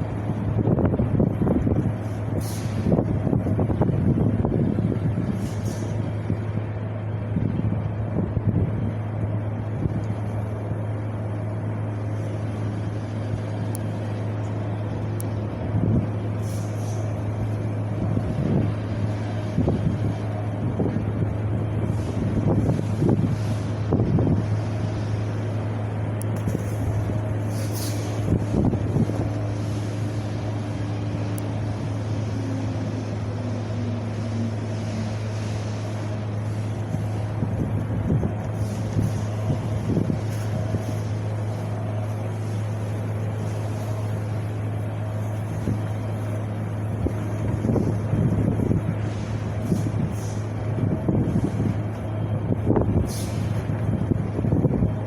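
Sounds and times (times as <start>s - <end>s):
low rumble: 0.0s - 55.0s
steady low hum: 0.0s - 55.0s
wind blowing: 0.0s - 55.0s.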